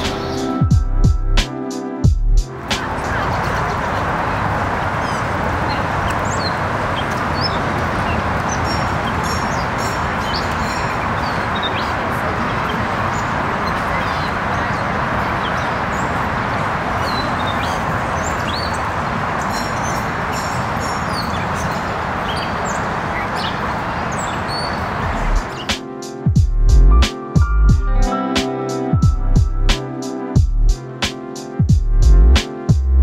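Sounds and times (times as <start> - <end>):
small birds chirping: 0.0 - 29.1
steady background rush: 0.0 - 33.0.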